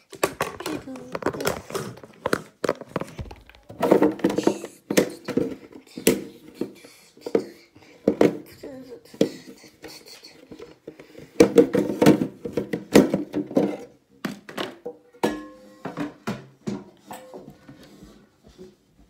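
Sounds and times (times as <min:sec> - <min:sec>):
objects clattering in plastic enclosure: 0:00.0 - 0:08.6, 0:10.6 - 0:17.8.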